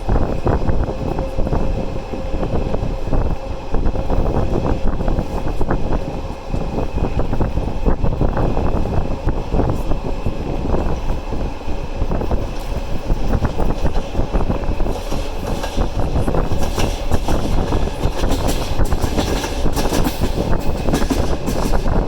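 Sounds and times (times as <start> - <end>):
train rumbling: 0.0 - 22.0
train wheels clicking: 0.0 - 22.0.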